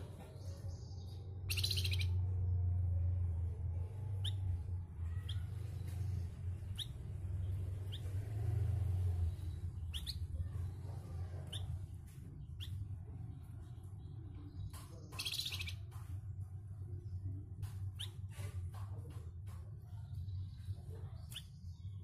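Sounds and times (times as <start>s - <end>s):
songbird chirping: 0.0s - 22.0s.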